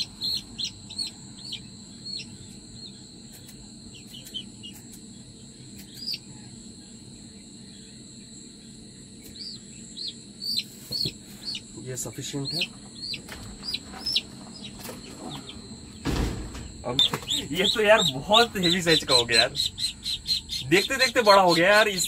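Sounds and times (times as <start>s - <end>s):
chicks peeping: 0.0s - 6.4s, 8.6s - 22.0s
steady high-pitched whine: 0.0s - 22.0s.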